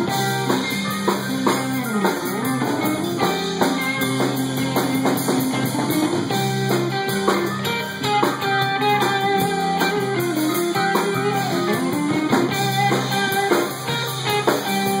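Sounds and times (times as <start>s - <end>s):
drum kit: 0.0s - 15.0s
electric guitar: 0.0s - 15.0s.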